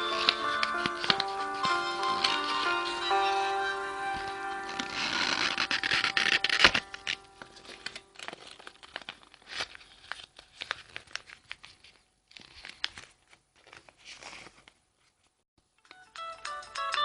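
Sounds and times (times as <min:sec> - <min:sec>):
paper crinkling and rustling: 0:00.0 - 0:03.4, 0:04.1 - 0:15.4.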